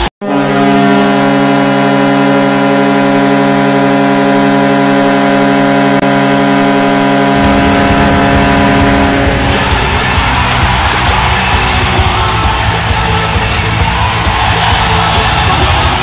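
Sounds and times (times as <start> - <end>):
goal horn sounding a chord: 0.0 - 12.9
arena music: 0.0 - 16.0.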